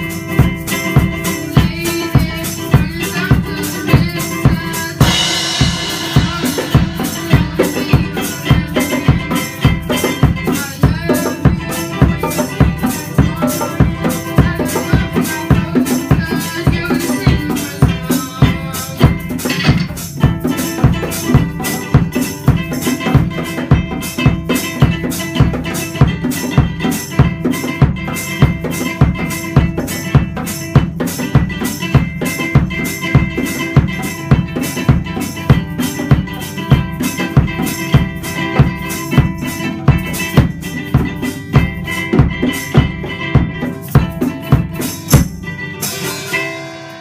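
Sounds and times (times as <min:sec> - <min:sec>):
drums keeping steady beat: 0:00.0 - 0:47.0
ukulele strumming: 0:00.0 - 0:47.0.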